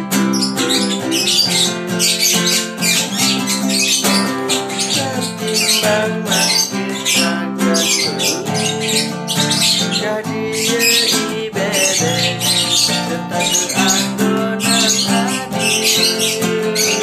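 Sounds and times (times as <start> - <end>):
acoustic guitar strumming: 0.0 - 17.0
bird chirping and squawking: 0.0 - 17.0.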